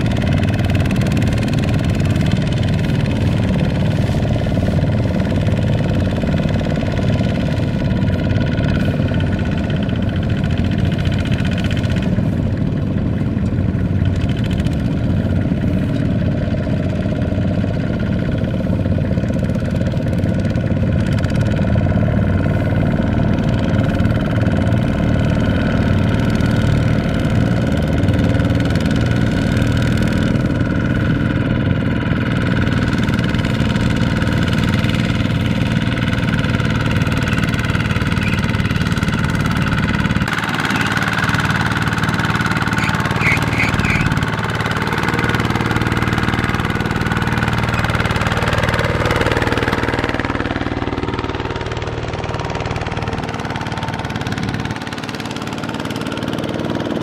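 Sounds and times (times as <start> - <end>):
diesel engine running: 0.0 - 57.0
wheels churning through mud: 0.0 - 57.0.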